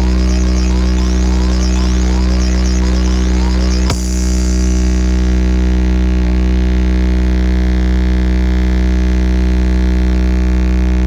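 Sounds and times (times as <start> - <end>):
electronic bass drone: 0.0 - 11.0.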